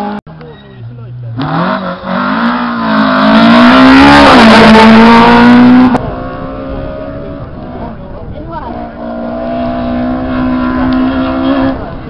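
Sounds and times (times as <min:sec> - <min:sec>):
rally car engine revving: 0:00.8 - 0:12.0.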